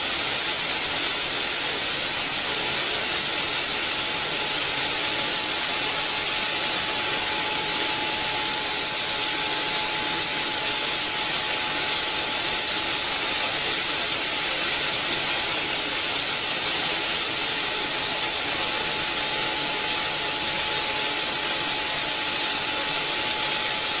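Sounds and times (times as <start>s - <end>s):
grain suction conveyor hissing: 0.0s - 24.0s
thin steady whine: 0.0s - 24.0s.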